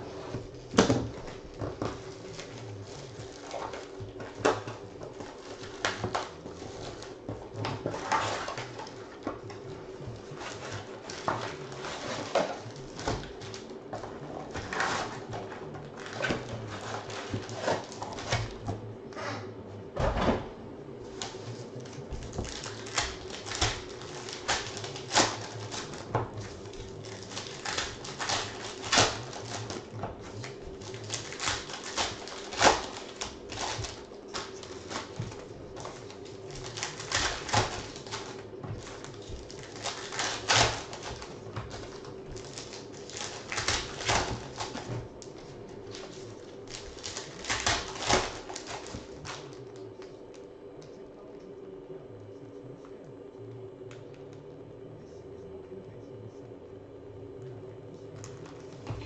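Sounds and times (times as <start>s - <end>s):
cardboard and foil crinkling: 0.0s - 18.9s, 21.0s - 51.0s, 58.1s - 59.0s
faint steady hum: 0.0s - 59.0s.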